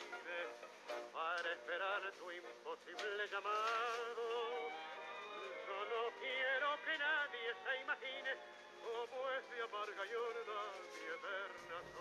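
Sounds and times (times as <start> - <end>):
man singing with vibrato: 0.0 - 12.0.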